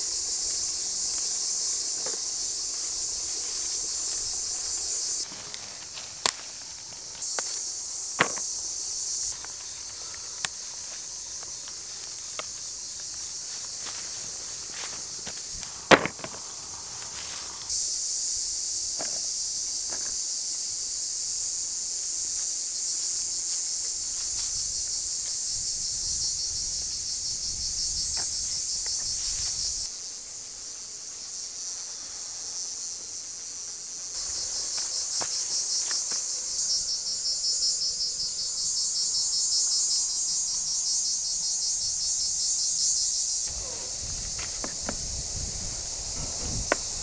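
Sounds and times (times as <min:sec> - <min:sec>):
insects chirring: 0:00.0 - 0:47.0.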